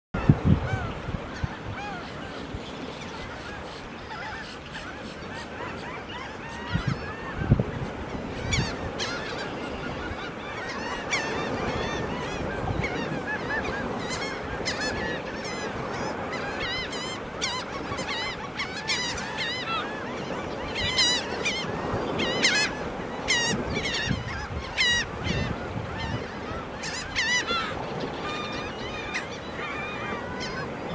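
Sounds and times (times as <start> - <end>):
shorebird flock calling: 0.2 - 30.9.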